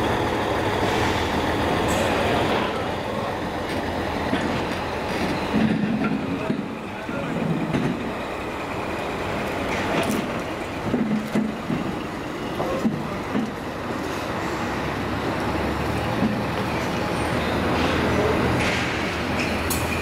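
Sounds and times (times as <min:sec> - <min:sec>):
lorry diesel engine running low: 0:00.0 - 0:20.0
trailer knocking and rattling: 0:00.0 - 0:20.0.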